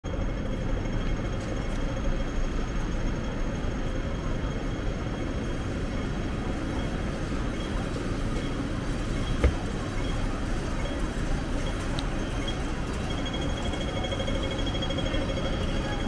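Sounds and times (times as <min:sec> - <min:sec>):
traffic rumble: 0:00.1 - 0:16.0.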